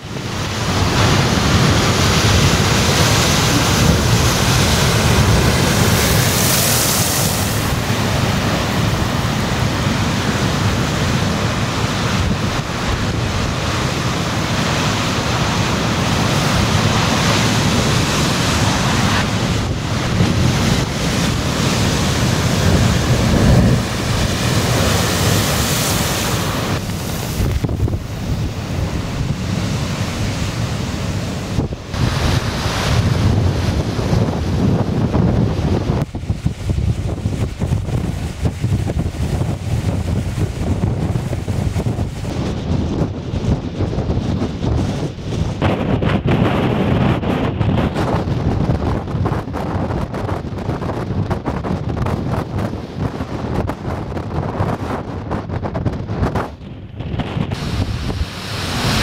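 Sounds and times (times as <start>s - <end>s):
storm waves crashing on rocks: 0.0s - 59.0s
wind buffeting microphone: 0.0s - 59.0s.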